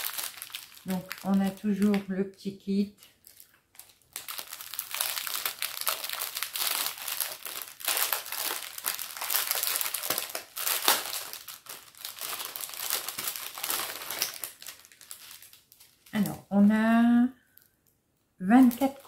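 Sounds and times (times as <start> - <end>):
plastic bags crinkling: 0.0 - 2.2, 2.8 - 16.6, 17.4 - 17.9, 18.5 - 19.0.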